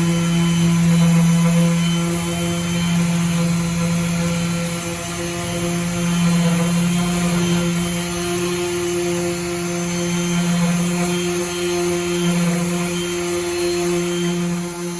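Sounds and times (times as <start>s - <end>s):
orbital sander running: 0.0s - 14.9s.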